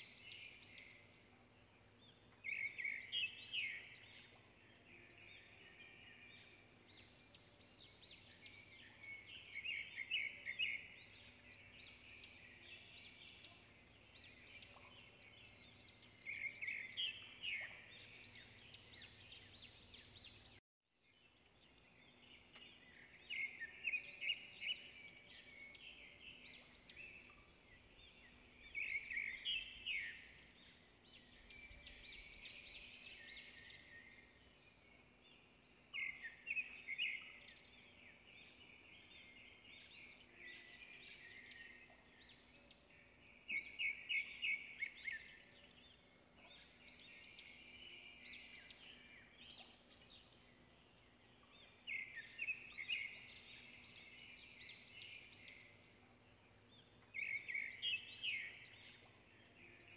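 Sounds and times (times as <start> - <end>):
birds chirping: 0.0 - 20.6, 21.4 - 59.9.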